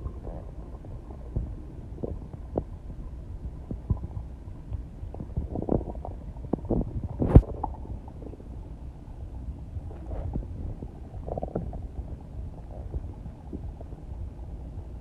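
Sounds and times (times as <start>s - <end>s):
stomach growling: 0.0s - 8.7s, 9.8s - 14.0s.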